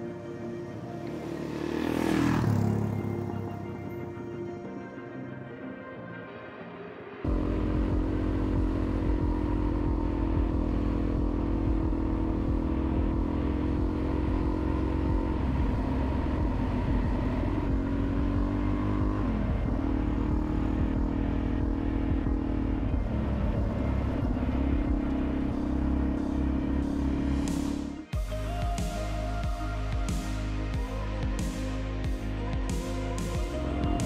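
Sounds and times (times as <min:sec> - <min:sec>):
dirt bike engine running: 0:01.0 - 0:03.6, 0:07.3 - 0:34.0.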